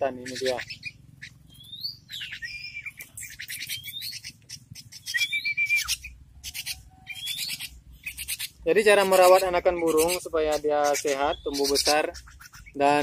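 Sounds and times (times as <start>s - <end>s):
bird chick calling: 0.0s - 13.0s.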